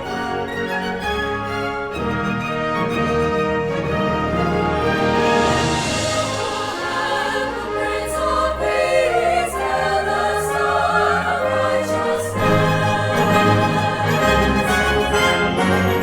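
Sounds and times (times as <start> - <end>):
orchestra and choir performing: 0.0 - 16.0.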